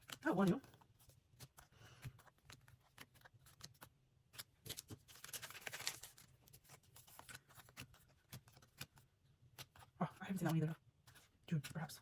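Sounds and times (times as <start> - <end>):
cards rustling: 0.0 - 12.0.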